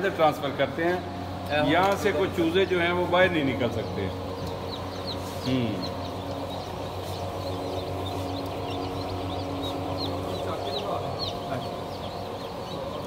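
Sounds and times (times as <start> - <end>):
chicks peeping: 0.0 - 13.0
low machine hum: 0.0 - 13.0.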